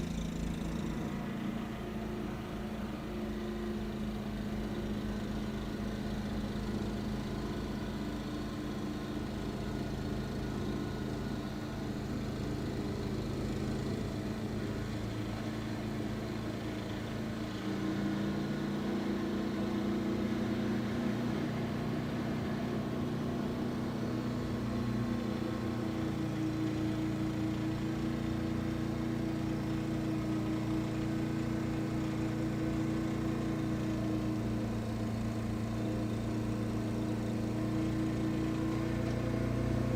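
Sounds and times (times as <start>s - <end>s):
snow blower engine running: 0.0s - 39.9s.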